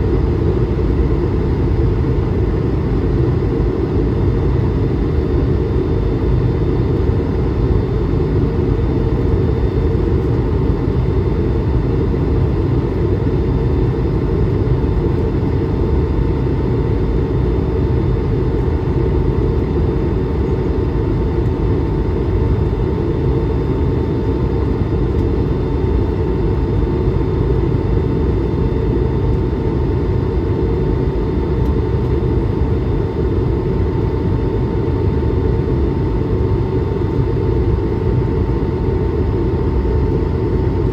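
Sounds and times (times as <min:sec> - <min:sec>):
aircraft cabin deep rumble: 0:00.1 - 0:40.9.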